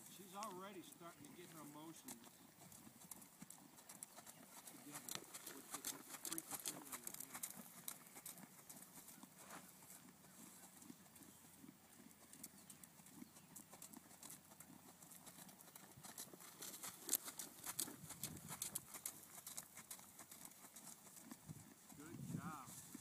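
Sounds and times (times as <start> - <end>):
horse hooves on soft dirt: 0.0 - 23.0.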